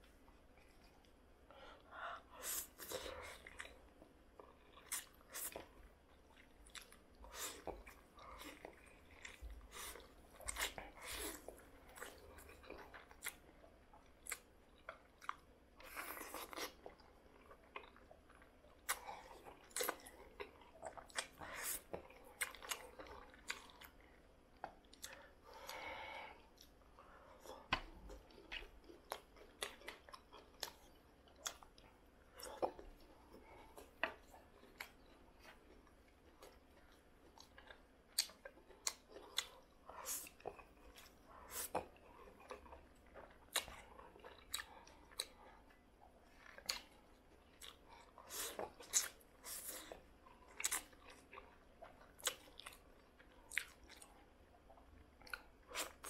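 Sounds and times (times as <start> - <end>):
wet chewing with smacks: 1.8 - 25.8, 26.5 - 56.0.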